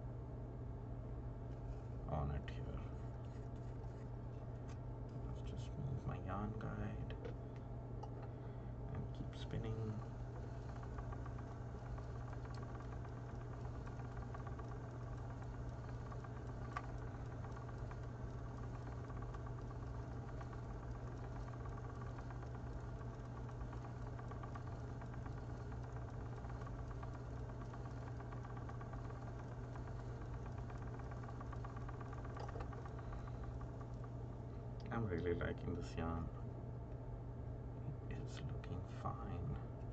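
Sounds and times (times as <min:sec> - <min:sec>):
spinning wheel humming: 0:00.0 - 0:39.9.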